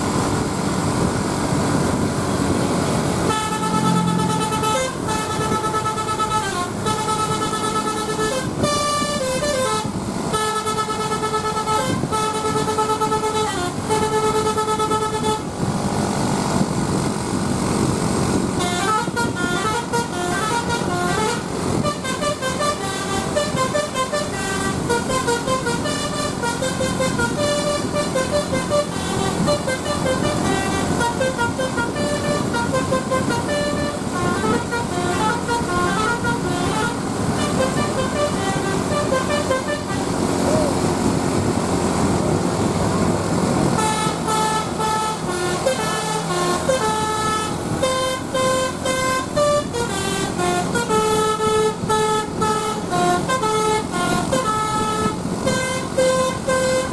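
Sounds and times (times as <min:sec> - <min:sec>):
multi-tone bus horn tune: 0:00.0 - 0:56.9.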